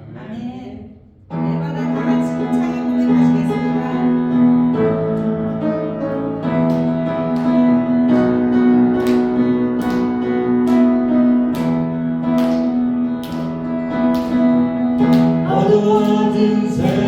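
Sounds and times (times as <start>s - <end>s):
acoustic guitar strumming: 1.3s - 17.0s.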